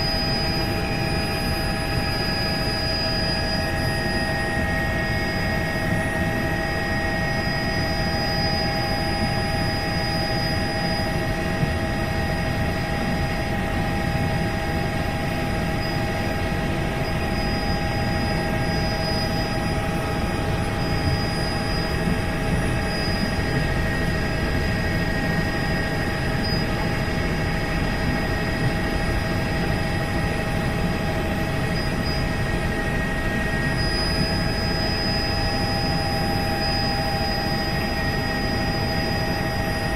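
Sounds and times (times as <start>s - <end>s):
helicopter engine and rotor drone: 0.0s - 39.9s
high whining tones: 0.0s - 39.9s.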